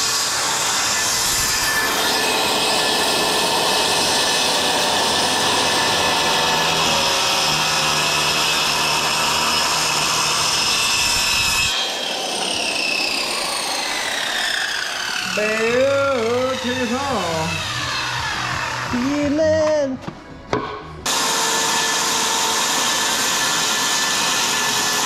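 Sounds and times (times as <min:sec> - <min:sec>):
circular saw cutting board: 0:00.0 - 0:19.4, 0:21.0 - 0:25.0.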